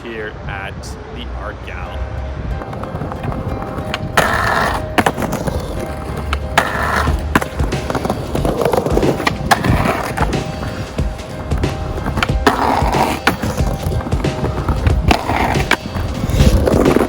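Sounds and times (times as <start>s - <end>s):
skateboard wheels rolling: 2.5s - 17.0s
skateboard clacks: 2.6s - 17.0s.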